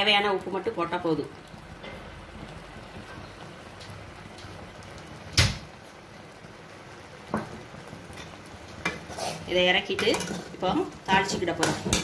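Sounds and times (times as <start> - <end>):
faint hiss of bubbling pan: 0.0 - 12.0.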